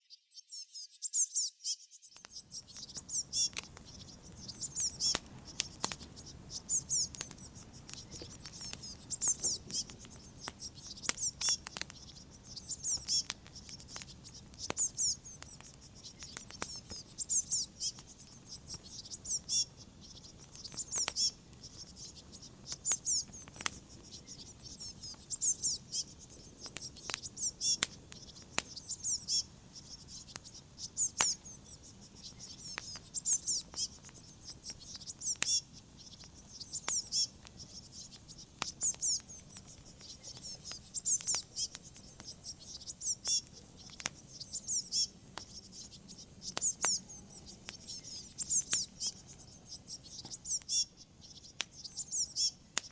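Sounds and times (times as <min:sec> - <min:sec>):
cricket chirping: 0:02.2 - 0:52.9
log fire crackling and popping: 0:02.2 - 0:52.9.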